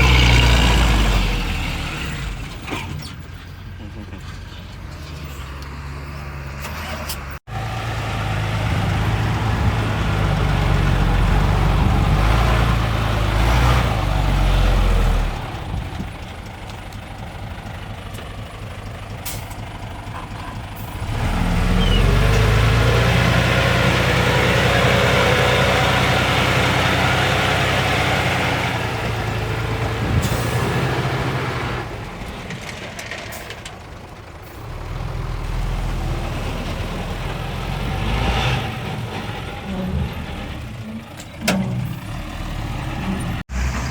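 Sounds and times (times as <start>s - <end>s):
diesel engines of earthmoving machinery: 0.0s - 43.9s.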